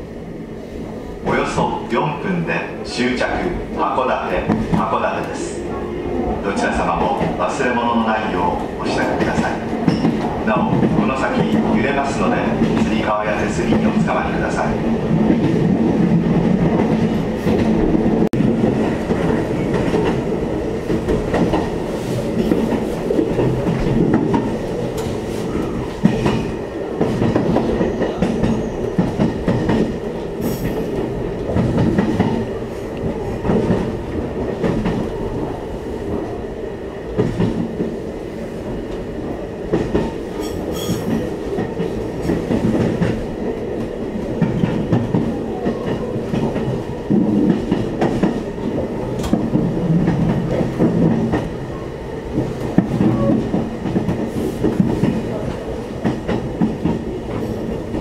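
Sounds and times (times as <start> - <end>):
train wheels rumbling on rail: 0.0 - 58.0
clickety-clack over rail joints: 1.2 - 5.6, 6.5 - 36.4, 37.1 - 38.0, 38.6 - 58.0.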